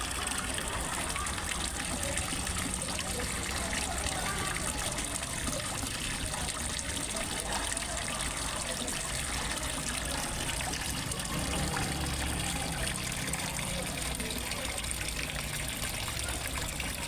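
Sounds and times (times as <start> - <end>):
water trickling into a pond: 0.0 - 17.0.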